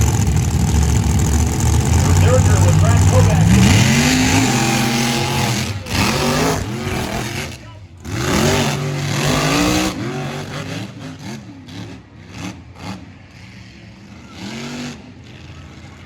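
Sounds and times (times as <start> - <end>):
truck engines revving: 0.0 - 16.0.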